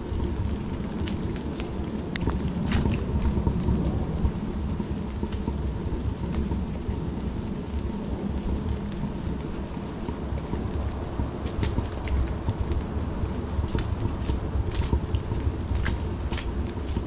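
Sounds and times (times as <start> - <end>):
heavy low rumble: 0.0 - 17.0
steady rain falling: 0.0 - 17.0.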